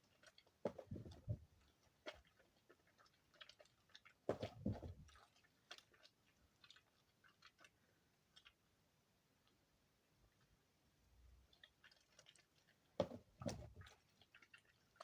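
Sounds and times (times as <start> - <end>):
crunchy squish: 0.0 - 8.7, 11.4 - 15.0.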